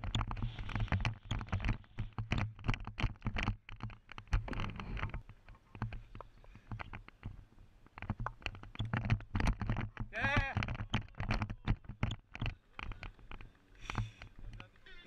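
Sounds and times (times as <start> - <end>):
knocks and thuds of running: 0.0 - 14.9.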